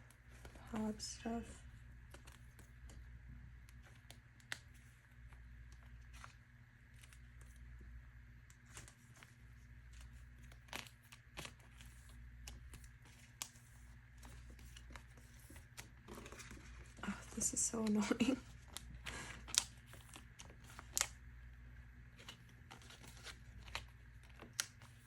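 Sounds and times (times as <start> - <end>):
low steady hum: 0.0 - 25.0
plastic pages rustling: 0.1 - 21.2, 22.0 - 25.0.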